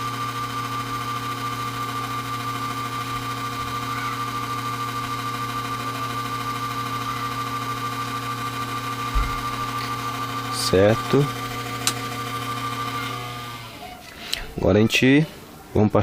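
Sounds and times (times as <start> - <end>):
power supply humming: 0.0 - 14.4.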